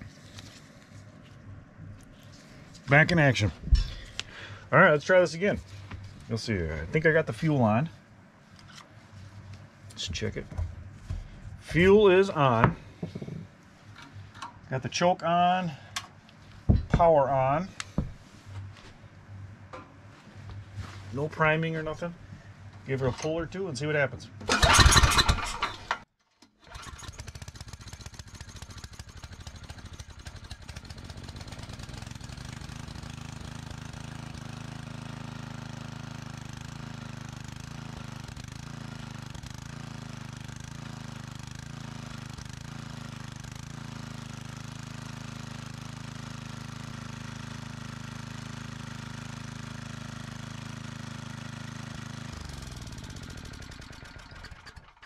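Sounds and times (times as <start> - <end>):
generator engine running: 0.0 - 14.6, 24.4 - 26.0, 26.6 - 55.0.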